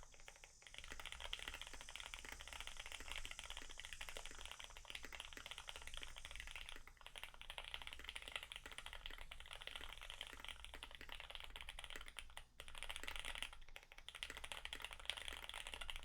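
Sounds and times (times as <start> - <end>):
mechanical keyboard typing: 0.0 - 16.0.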